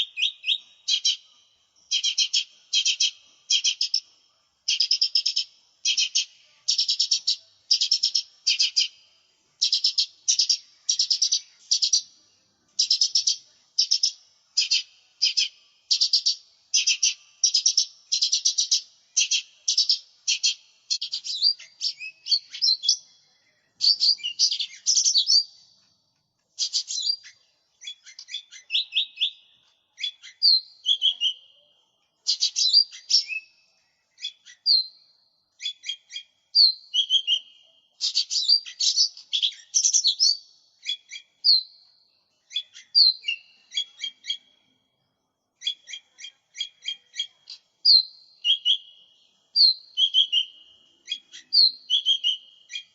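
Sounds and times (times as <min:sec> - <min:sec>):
bird singing rapid chattering phrases: 0:00.0 - 0:25.8, 0:26.6 - 0:44.6, 0:45.6 - 0:52.9.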